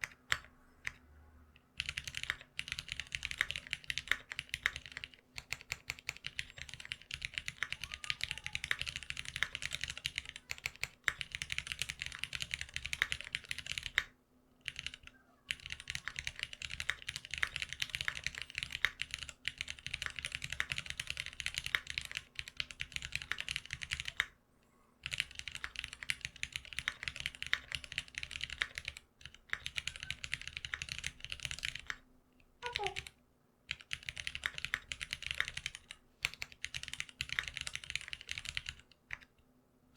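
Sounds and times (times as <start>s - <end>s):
fast typing on mechanical keyboard: 1.8s - 24.3s, 25.0s - 32.0s, 32.6s - 33.1s, 33.7s - 39.3s.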